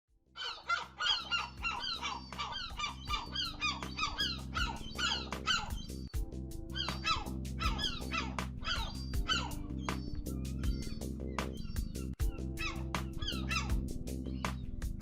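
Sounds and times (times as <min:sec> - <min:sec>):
background music low held notes: 0:00.2 - 0:15.0
seagulls calling: 0:00.4 - 0:14.6.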